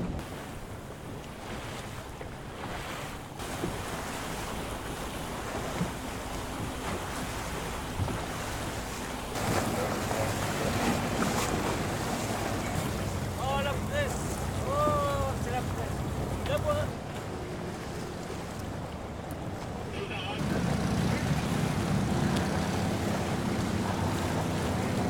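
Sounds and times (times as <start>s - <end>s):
waves washing: 0.0s - 25.0s
low engine hum: 3.3s - 25.0s
wind buffeting microphone: 4.6s - 25.0s.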